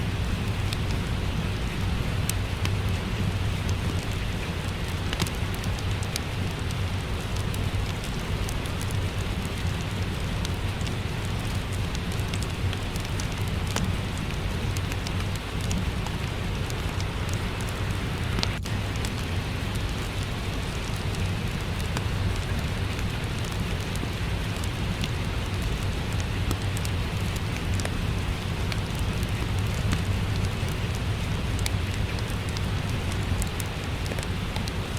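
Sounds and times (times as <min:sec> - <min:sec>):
fireplace crackling: 0:00.0 - 0:34.9
steady rain: 0:00.0 - 0:34.9
fire popping: 0:00.1 - 0:34.9.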